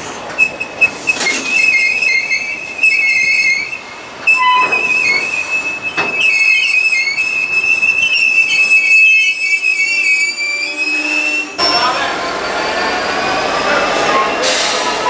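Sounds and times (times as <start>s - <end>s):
train wheels squealing: 0.3s - 15.0s.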